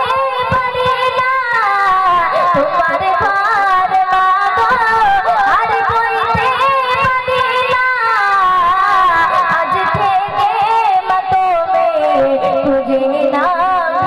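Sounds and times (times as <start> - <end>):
girl singing into microphone: 0.0 - 14.0.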